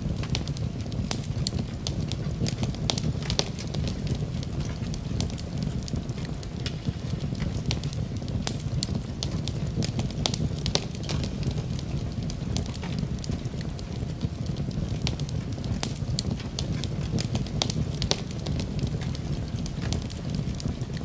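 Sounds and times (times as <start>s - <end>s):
low rumble of fire: 0.0s - 21.0s
wood fire crackling and popping: 0.0s - 21.0s.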